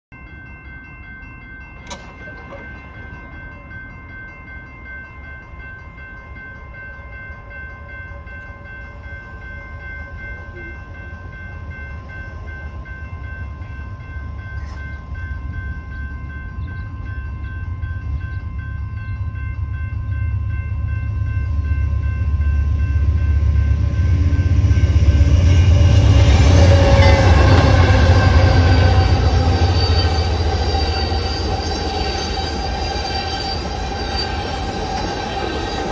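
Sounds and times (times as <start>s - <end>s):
railroad crossing bells ringing: 0.1s - 35.9s
passenger train rumble: 0.2s - 35.9s.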